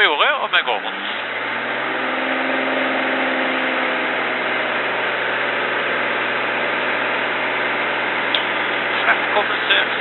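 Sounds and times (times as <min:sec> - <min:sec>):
aircraft piston engine and propeller: 0:00.3 - 0:10.0.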